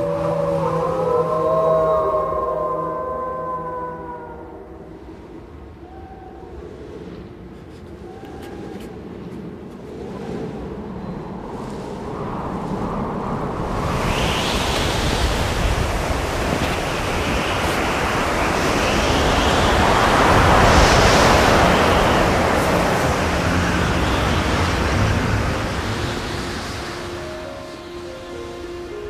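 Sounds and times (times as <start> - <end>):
rushing surf-like wash: 0.0 - 29.0.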